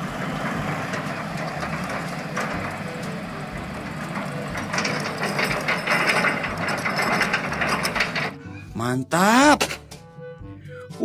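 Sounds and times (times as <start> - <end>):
diesel truck engine running: 0.0 - 9.5.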